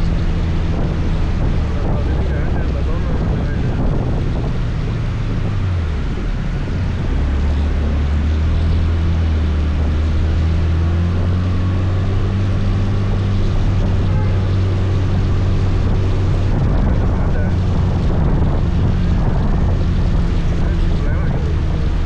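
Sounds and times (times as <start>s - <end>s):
motor scooter engine humming: 0.0s - 22.0s
wind and road noise: 0.0s - 22.0s.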